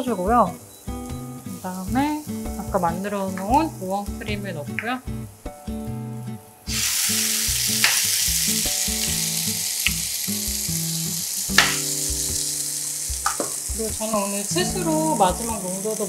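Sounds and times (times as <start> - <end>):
mushrooms sizzling in frying pan: 0.0 - 16.0.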